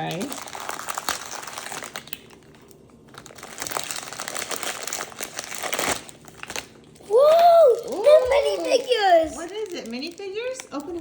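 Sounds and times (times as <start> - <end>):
crinkly packaging being torn: 0.0 - 11.0.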